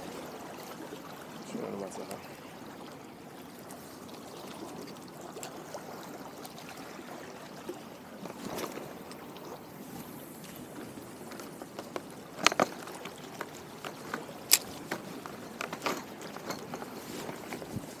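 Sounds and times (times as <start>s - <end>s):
sea water lapping at shore: 0.0s - 18.0s.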